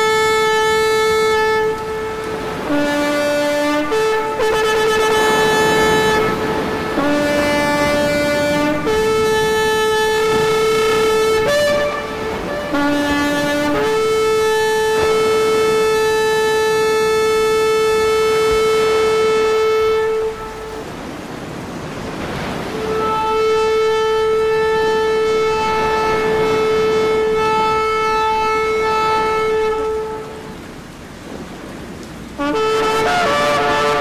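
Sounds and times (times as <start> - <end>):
long held horn-like notes: 0.0 - 34.0.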